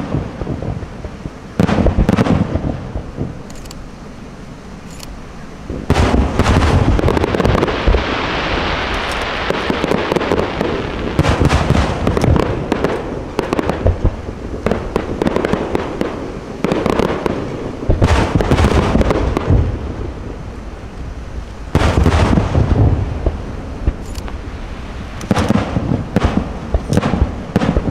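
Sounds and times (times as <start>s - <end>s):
firework shells booming: 0.0s - 3.4s, 5.7s - 20.4s, 21.7s - 27.9s
fireworks crackling: 0.0s - 27.9s.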